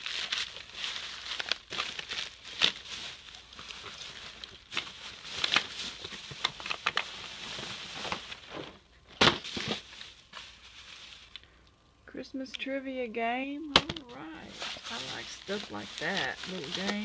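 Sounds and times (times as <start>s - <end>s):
plastic bags crinkling: 0.0s - 11.5s, 13.7s - 17.0s.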